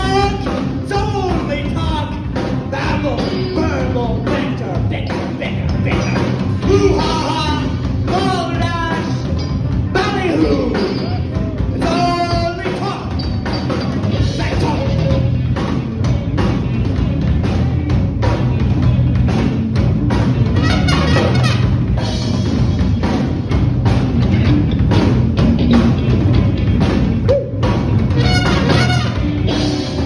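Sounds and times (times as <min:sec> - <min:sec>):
bass line: 0:00.0 - 0:30.0
drum kit beat: 0:00.0 - 0:30.0
rock band playing: 0:00.0 - 0:30.0.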